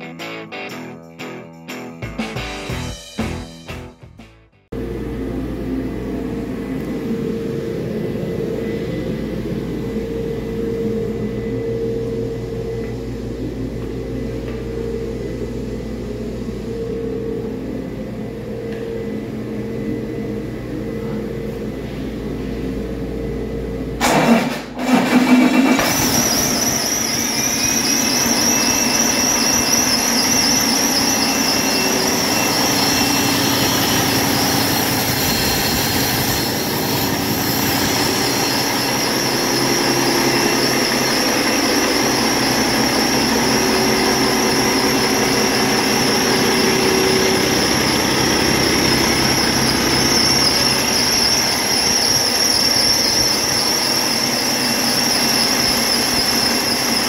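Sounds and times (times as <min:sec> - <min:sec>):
diesel engine running: 0:04.7 - 0:54.9
high-pitched whine: 0:04.7 - 0:57.0.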